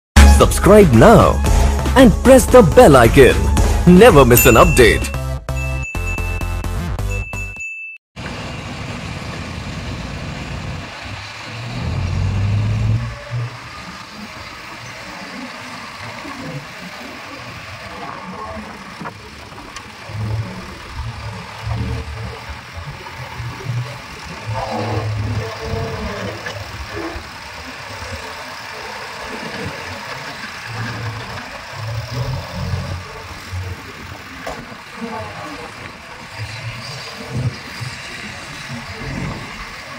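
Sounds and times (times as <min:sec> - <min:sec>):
diesel engine rumbling: 0:00.2 - 0:05.3, 0:08.2 - 0:39.9.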